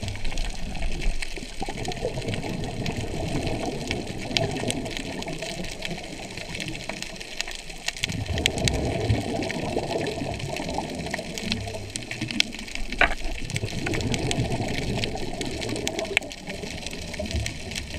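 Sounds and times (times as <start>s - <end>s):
underwater clicks and crackles: 0.0s - 17.9s
underwater rush of water: 0.0s - 17.9s.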